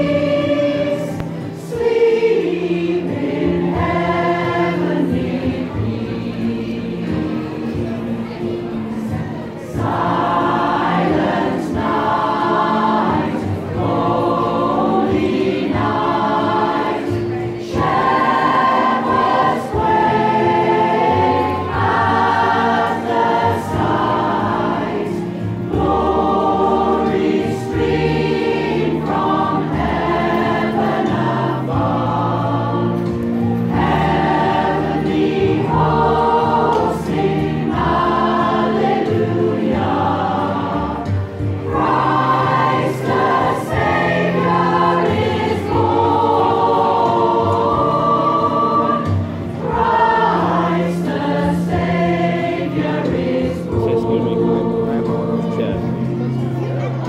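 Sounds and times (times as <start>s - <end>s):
choir singing a carol: 0.0s - 57.0s.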